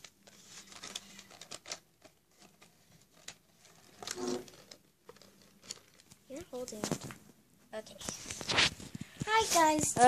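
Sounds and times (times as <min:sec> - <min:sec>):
soft clicks and rustling: 0:00.0 - 0:10.0.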